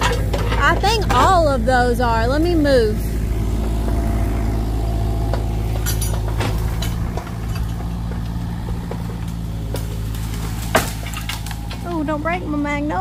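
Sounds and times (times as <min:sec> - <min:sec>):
wood cracking: 0:00.0 - 0:02.4, 0:03.1 - 0:12.2
excavator diesel engine running: 0:00.0 - 0:13.0.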